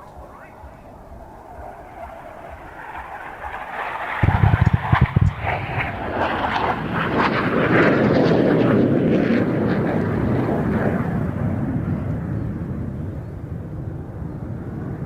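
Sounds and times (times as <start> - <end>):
jet aircraft low pass: 0.0 - 15.0.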